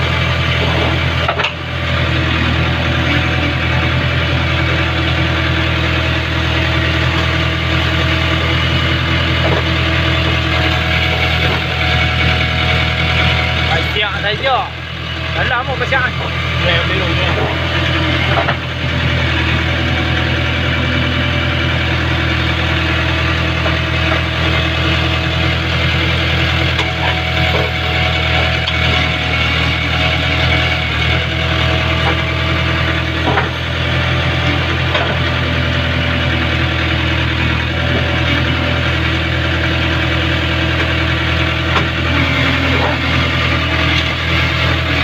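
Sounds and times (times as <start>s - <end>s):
diesel engine under load: 0.0s - 45.0s.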